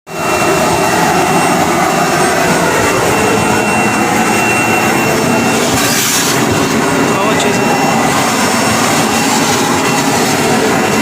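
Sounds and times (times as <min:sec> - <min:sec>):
industrial vacuum cleaner running: 0:00.1 - 0:11.0.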